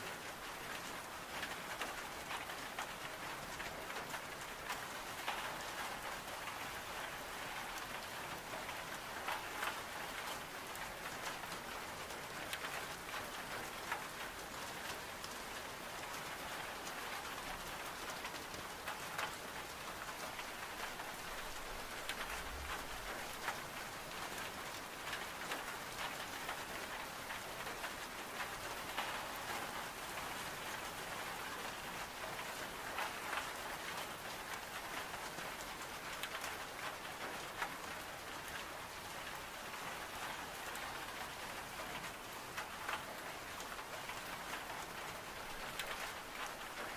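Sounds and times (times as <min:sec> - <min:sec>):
rain on window glass: 0:00.0 - 0:46.9.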